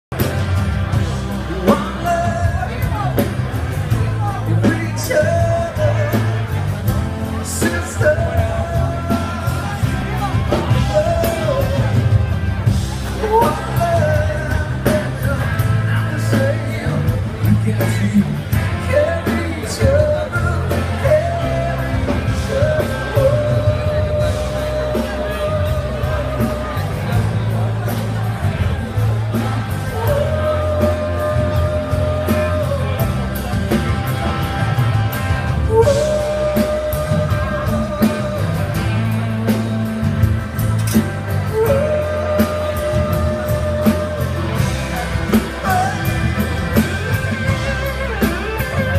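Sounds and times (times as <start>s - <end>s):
bass guitar: 0.0s - 48.9s
drums: 0.0s - 48.9s
electric guitars: 0.1s - 48.9s
person singing: 1.4s - 48.9s.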